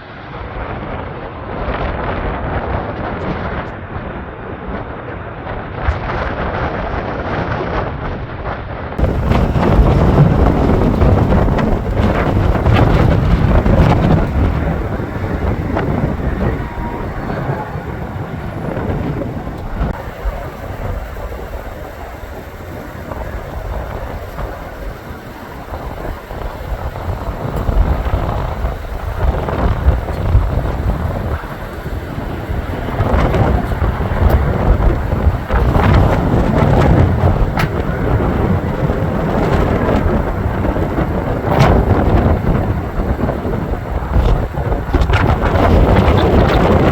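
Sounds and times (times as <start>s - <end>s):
gusty wind on microphone: 0.0s - 46.9s.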